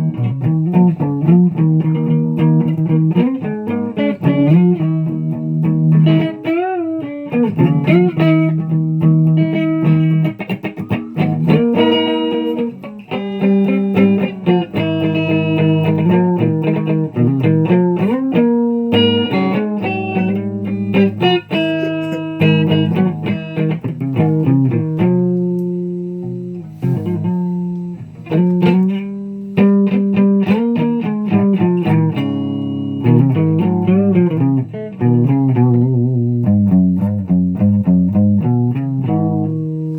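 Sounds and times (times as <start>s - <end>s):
guitar melody: 0.0s - 39.9s.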